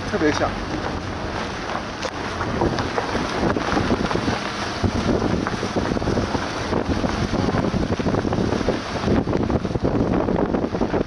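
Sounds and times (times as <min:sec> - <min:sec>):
tyres rumbling on gravel: 0:00.0 - 0:11.0
vehicle knocks and rattles: 0:00.0 - 0:11.0
wind buffeting microphone: 0:00.0 - 0:11.0.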